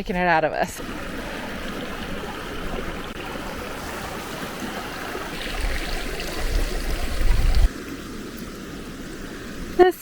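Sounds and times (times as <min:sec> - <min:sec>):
wind buffeting microphone: 0:00.0 - 0:09.8
mountain creek rushing: 0:00.8 - 0:10.0.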